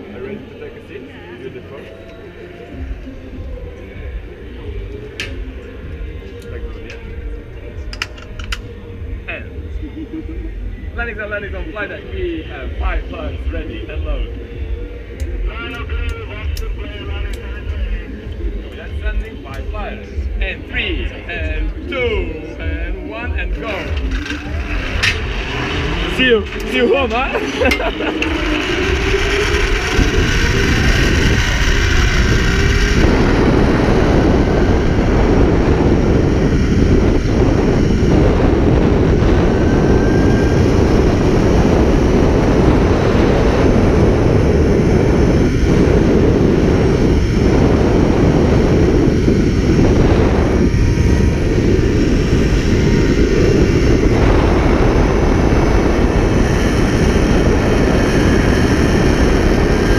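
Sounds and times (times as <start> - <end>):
wind buffeting microphone: 2.8 - 59.9.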